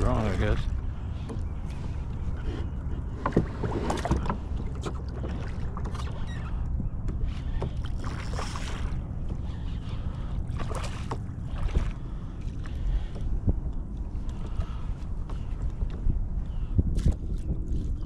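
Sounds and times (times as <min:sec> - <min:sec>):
water lapping at a kayak: 0:00.0 - 0:18.0
wind rumbling on microphone: 0:00.0 - 0:18.0.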